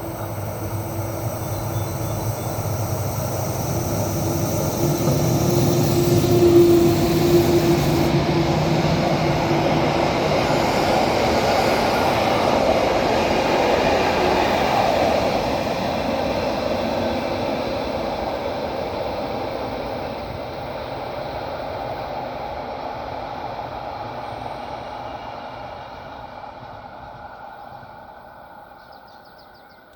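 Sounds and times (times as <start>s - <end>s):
electric locomotive hum: 0.0s - 29.9s
train wheels rumbling on track: 0.0s - 29.9s.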